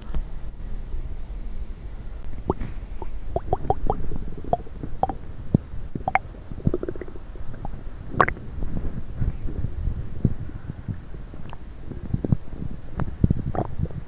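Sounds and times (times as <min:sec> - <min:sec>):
stomach gurgling and rumbling: 0:02.4 - 0:14.0.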